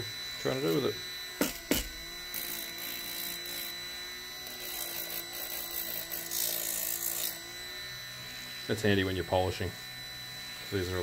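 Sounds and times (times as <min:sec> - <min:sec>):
rotary tool running: 0:00.0 - 0:11.0.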